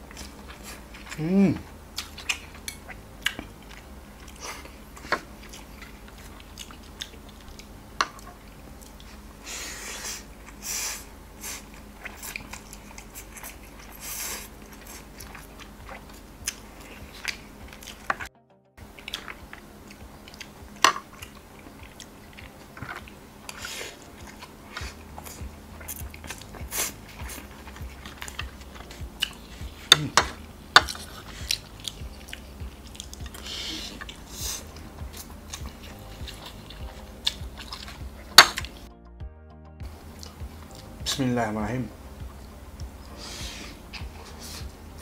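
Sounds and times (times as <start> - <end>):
person chewing and slurping noodles: 0.0 - 38.9, 39.8 - 41.0, 42.2 - 45.0.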